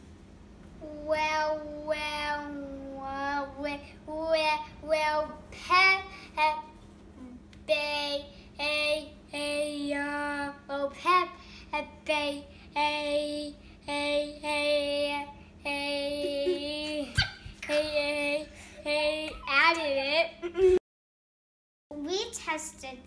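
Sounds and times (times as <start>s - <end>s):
young child singing: 0.8s - 20.3s.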